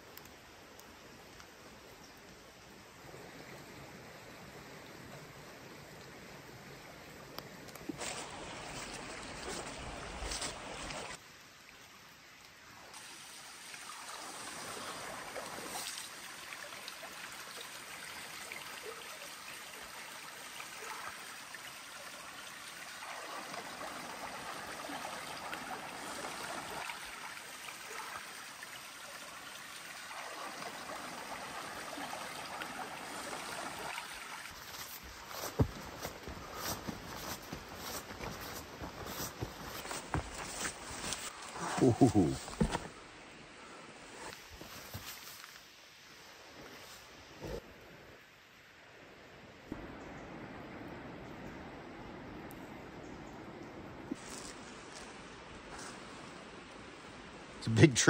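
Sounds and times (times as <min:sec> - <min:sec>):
stream rushing and trickling: 0:00.0 - 0:58.0.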